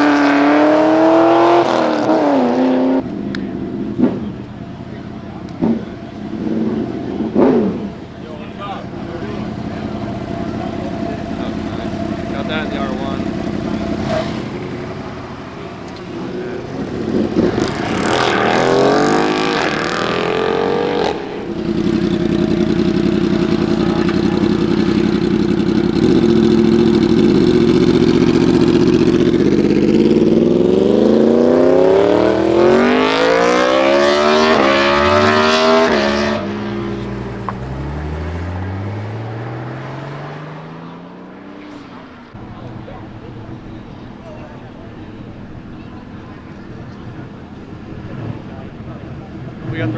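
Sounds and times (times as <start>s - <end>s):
high-revving vehicle engine: 0.0s - 49.9s.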